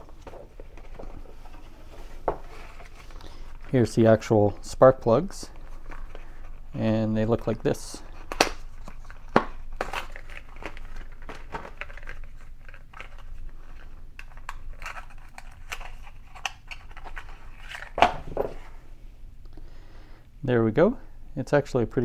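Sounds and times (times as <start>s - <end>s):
packaging rustling and crinkling: 0.0s - 4.8s, 5.4s - 18.8s.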